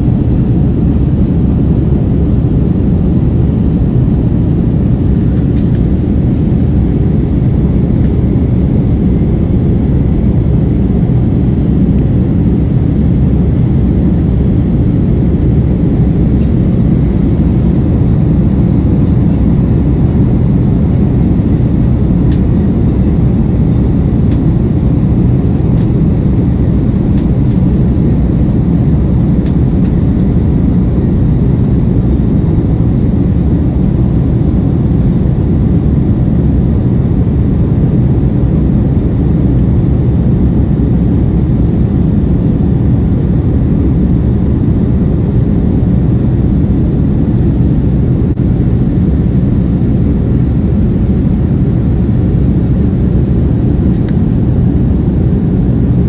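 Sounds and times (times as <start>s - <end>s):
jet engines rumbling: 0.0s - 56.0s
rushing air in cabin: 0.0s - 56.0s.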